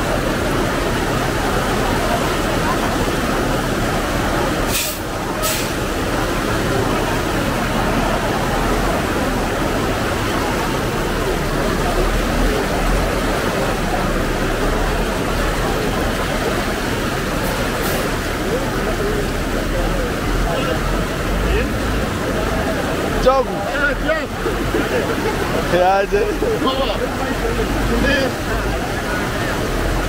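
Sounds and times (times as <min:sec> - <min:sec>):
crowd talking: 0:00.0 - 0:30.0
floodwater rushing: 0:00.0 - 0:30.0.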